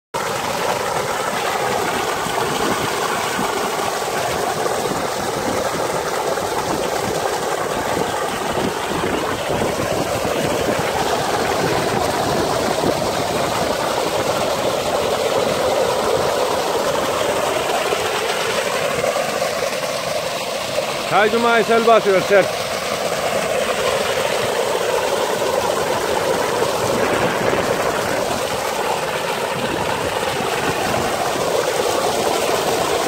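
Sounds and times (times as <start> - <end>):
water gushing from a pipe: 0.2 - 33.0.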